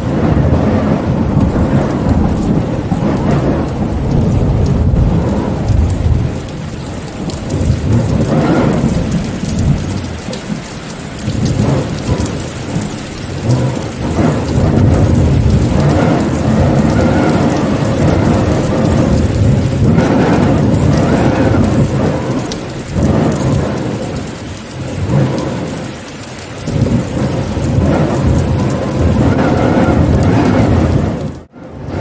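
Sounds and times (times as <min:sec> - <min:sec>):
deep rumble: 0:00.0 - 0:26.0, 0:26.6 - 0:32.0
steady rain: 0:00.0 - 0:32.0.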